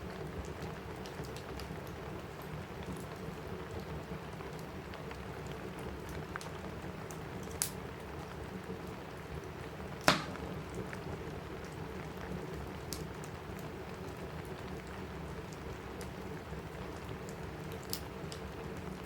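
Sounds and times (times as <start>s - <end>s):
rain on a roof: 0.0s - 19.0s
wood fire crackling: 0.0s - 19.0s.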